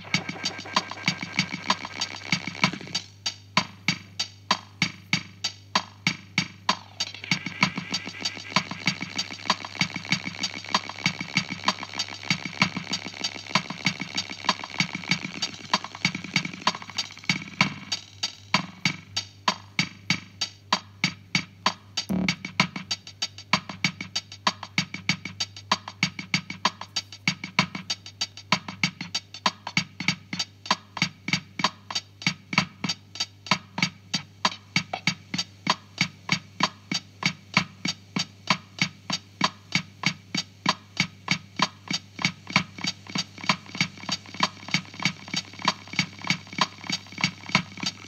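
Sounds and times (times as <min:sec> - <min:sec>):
drum machine rhythm: 0:00.0 - 0:48.0.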